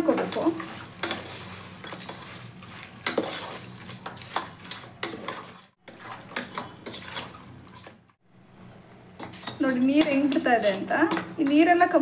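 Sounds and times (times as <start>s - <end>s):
metal spoon scraping a pot: 0.0s - 8.0s, 9.2s - 11.7s.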